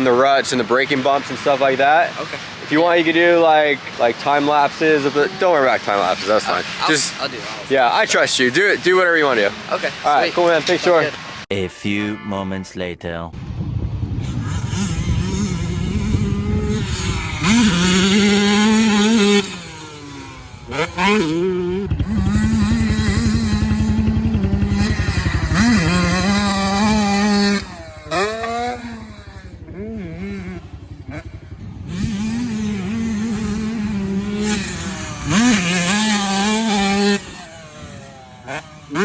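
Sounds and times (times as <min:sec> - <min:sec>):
dirt bike engine revving: 0:00.0 - 0:11.1, 0:14.0 - 0:39.0.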